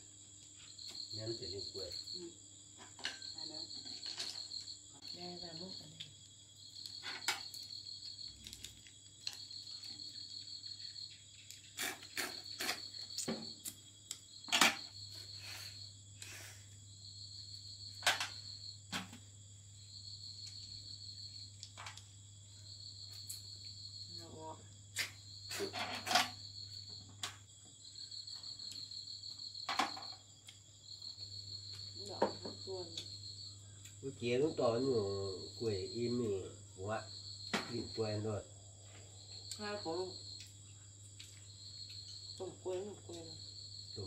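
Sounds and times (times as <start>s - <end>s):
insect trilling: 0.6s - 2.5s, 3.2s - 18.8s, 22.6s - 44.0s.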